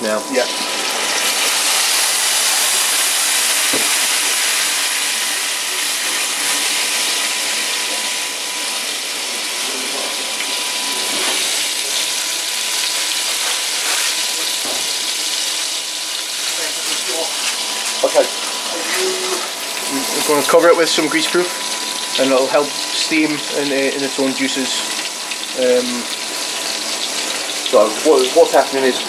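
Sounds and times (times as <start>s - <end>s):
liquid hissing in hot pan: 0.3s - 29.0s.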